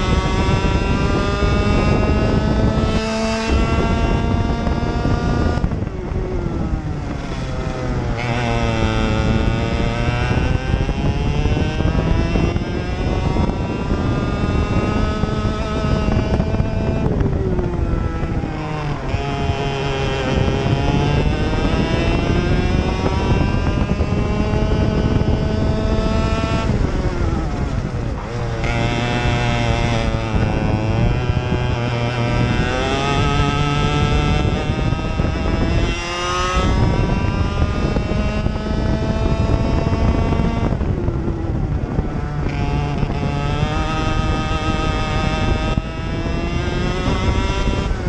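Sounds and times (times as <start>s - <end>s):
kart engine accelerating: 0.0s - 48.0s.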